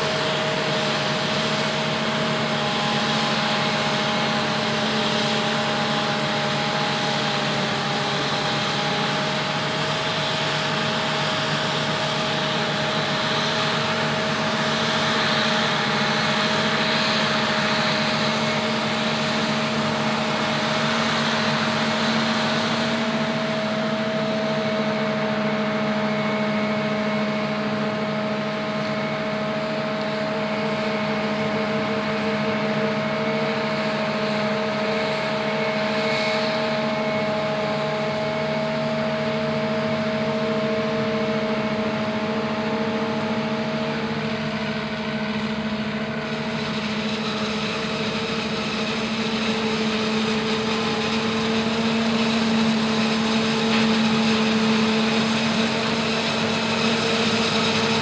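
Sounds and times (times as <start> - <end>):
forage harvester droning: 0.0 - 58.0.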